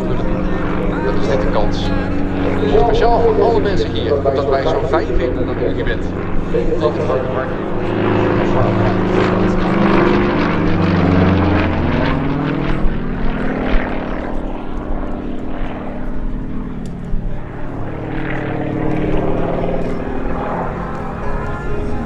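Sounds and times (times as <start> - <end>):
propeller plane engine: 0.0 - 22.0.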